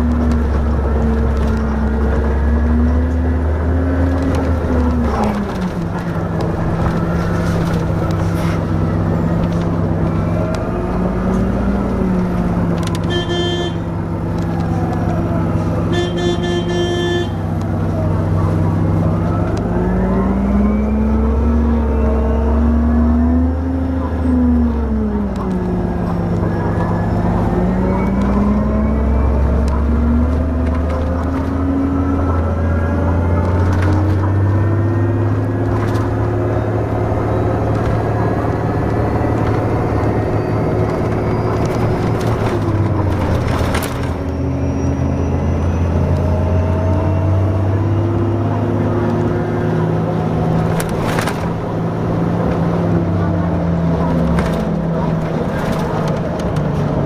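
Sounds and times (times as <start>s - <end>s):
bus engine hum: 0.0s - 57.0s.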